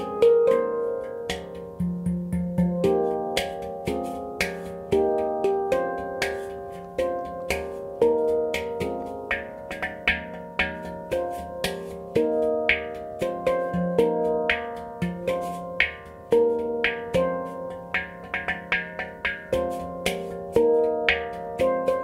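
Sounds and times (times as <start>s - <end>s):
handpan melody: 0.0s - 22.0s.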